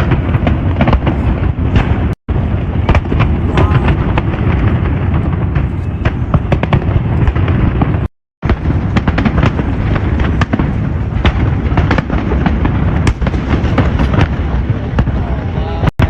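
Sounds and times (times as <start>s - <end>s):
fireworks booming and cracking: 0.0s - 16.0s.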